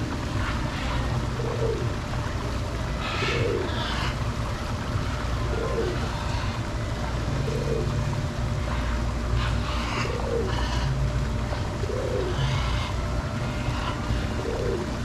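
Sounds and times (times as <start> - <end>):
steady low rumble: 0.0 - 15.0
bird low cooing call: 0.2 - 4.2, 5.4 - 15.0.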